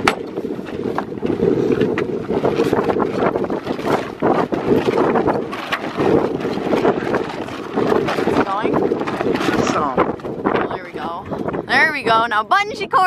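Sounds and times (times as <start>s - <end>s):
sail flapping and snapping: 0.0s - 13.0s
wind buffeting microphone: 0.0s - 13.0s.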